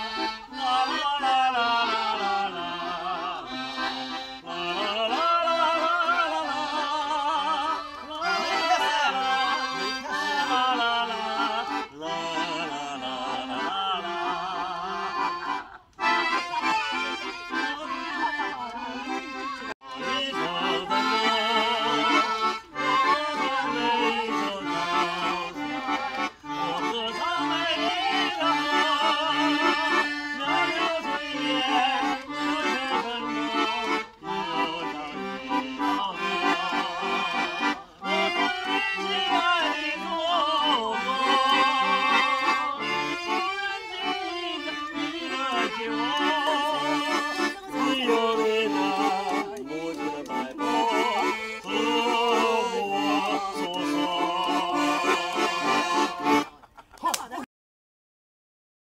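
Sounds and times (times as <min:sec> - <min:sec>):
person singing: 0:00.0 - 0:56.5
piano accordion playing: 0:00.0 - 0:56.7.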